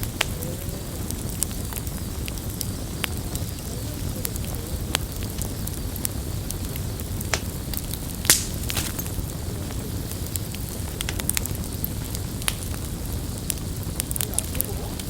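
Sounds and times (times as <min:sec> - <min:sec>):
campfire flames rushing: 0:00.0 - 0:15.0
wood crackling and popping: 0:00.0 - 0:15.0.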